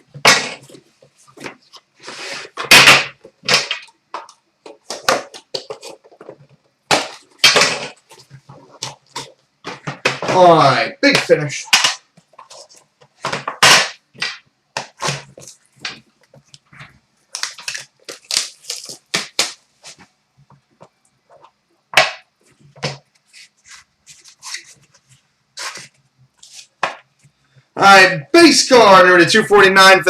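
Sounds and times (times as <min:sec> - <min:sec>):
cards and packaging rustling: 0:00.1 - 0:21.6, 0:22.4 - 0:27.4.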